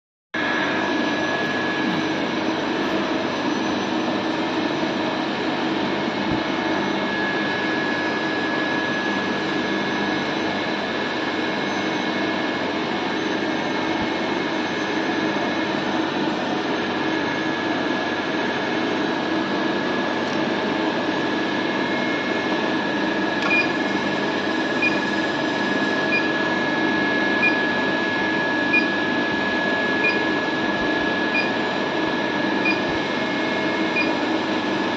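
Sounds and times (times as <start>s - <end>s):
constant high whine: 0.4s - 34.9s
workshop machinery hum: 0.4s - 34.9s.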